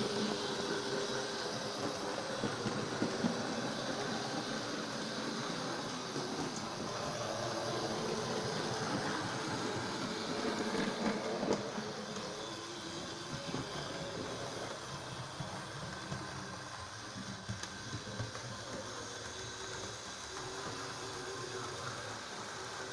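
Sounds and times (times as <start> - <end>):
model train motor whirr: 0.0 - 22.9
wheels rattling on track: 0.0 - 22.9.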